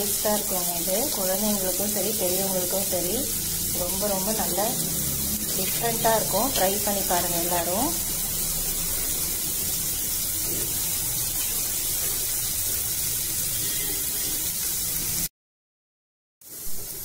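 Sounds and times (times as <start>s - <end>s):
vegetables sizzling in hot oil: 0.0s - 15.3s, 16.4s - 17.0s.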